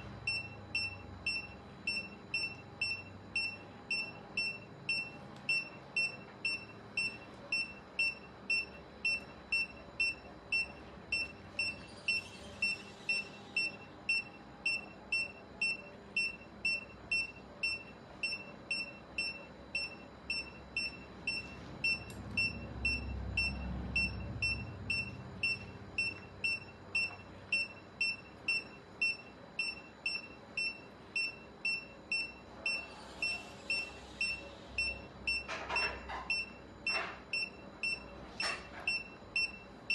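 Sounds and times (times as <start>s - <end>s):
patient monitor beeping: 0.0s - 39.9s.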